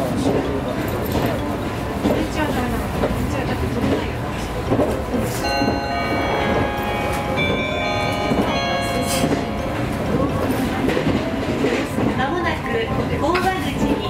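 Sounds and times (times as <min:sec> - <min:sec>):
train running: 0:00.0 - 0:14.0.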